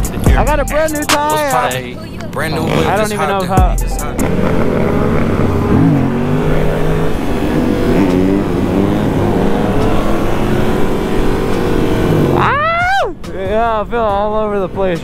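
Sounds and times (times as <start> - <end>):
wind and road noise: 0.0 - 15.0
motorcycle engine while riding: 1.2 - 15.0.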